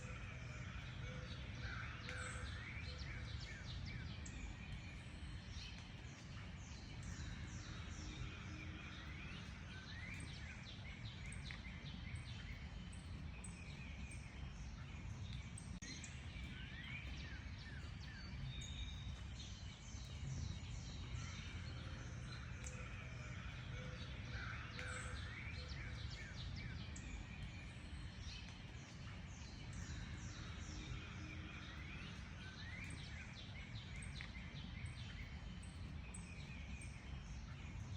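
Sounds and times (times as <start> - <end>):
birds singing and chirping: 0.0 - 37.9.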